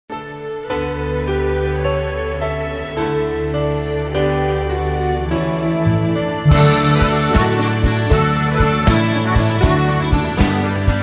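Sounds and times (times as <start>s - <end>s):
instrumental music with steady beat: 0.2s - 11.0s.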